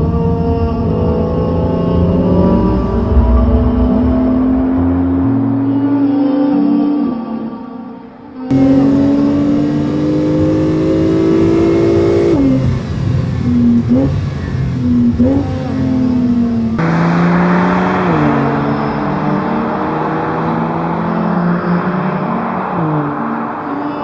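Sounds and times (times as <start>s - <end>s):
car engine revving: 0.0s - 6.8s, 8.5s - 24.0s.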